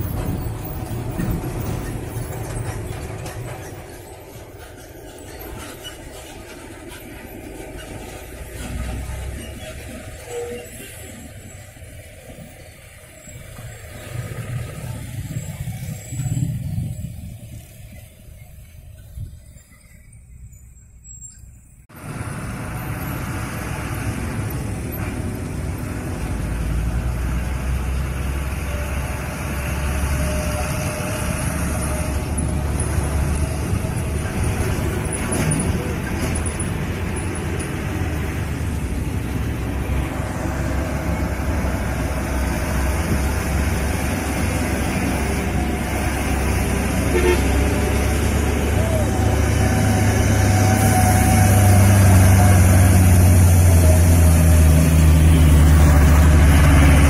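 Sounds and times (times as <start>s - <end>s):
truck engine passing: 0.0s - 57.0s.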